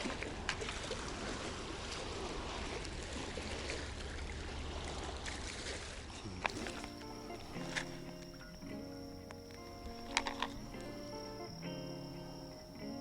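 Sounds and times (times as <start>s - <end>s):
seawater lapping: 0.0s - 13.0s.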